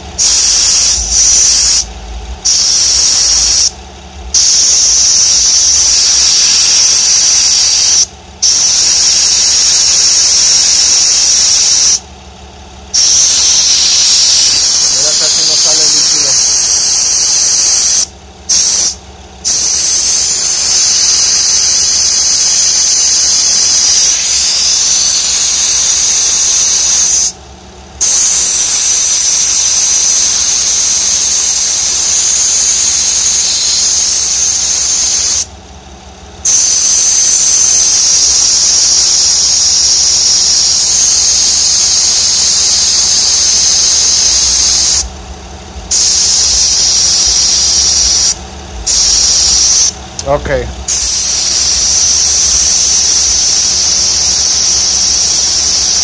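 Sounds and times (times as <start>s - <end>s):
refrigerant hissing from hose: 0.2s - 1.8s, 2.5s - 3.7s, 4.4s - 12.0s, 13.0s - 27.4s, 28.0s - 35.5s, 36.5s - 45.1s, 45.8s - 50.0s, 50.9s - 56.0s.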